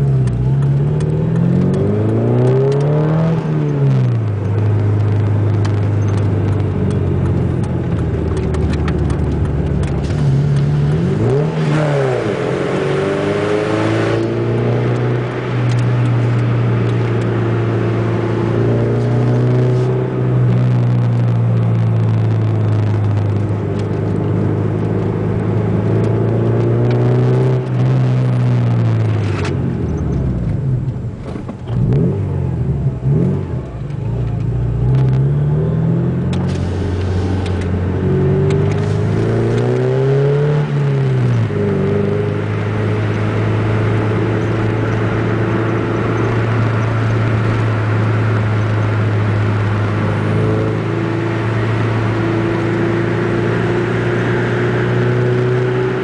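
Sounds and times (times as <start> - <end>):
car engine revving while driving: 0.0 - 56.0.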